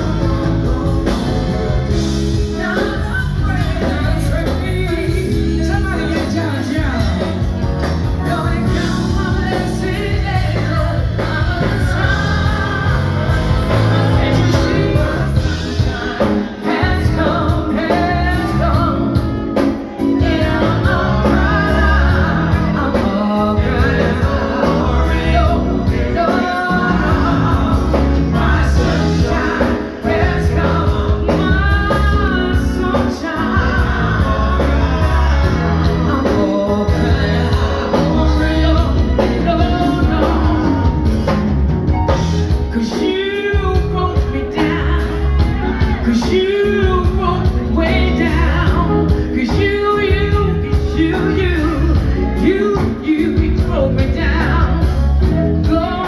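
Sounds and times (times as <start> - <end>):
backing band playing: 0.0 - 56.0
bass and drum beat: 0.0 - 56.0
woman singing lead: 0.0 - 56.0.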